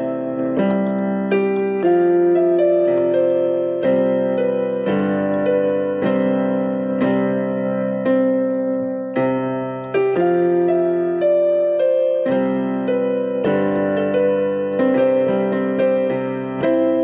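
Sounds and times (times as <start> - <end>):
piano chords and melody: 0.0 - 17.0.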